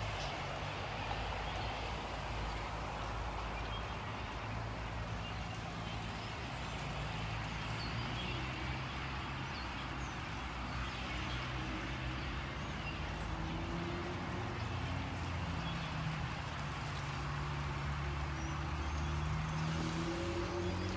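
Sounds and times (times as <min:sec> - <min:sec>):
flock of birds chirping: 0:00.0 - 0:20.9.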